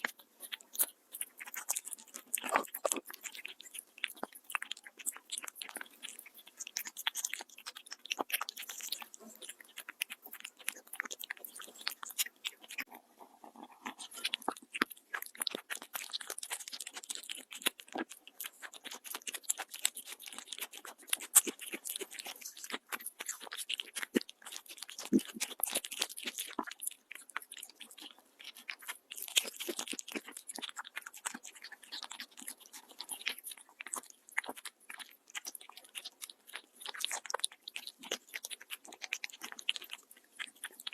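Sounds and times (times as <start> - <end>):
cat chewing food: 0.0 - 40.9.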